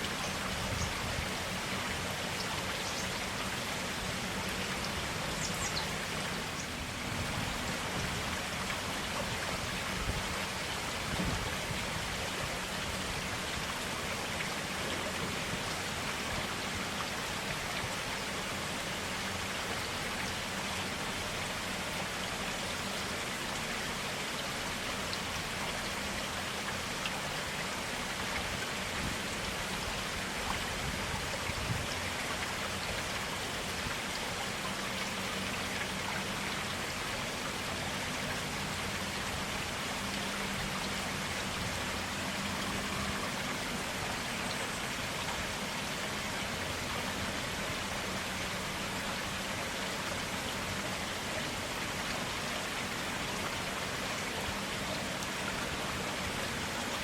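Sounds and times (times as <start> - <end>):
stream water splashing: 0.0 - 57.0.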